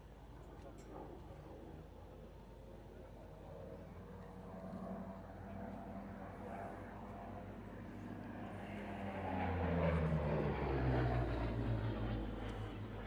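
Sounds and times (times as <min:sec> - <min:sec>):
propeller plane engine flypast: 0:00.0 - 0:13.0.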